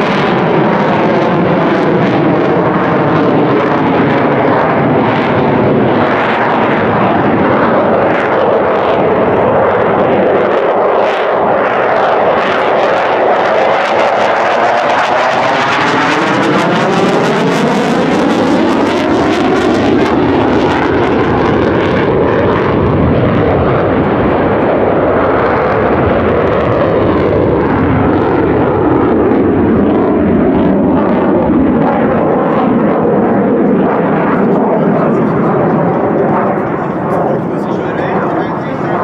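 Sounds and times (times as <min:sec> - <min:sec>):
fighter jet roar overhead: 0:00.0 - 0:39.0.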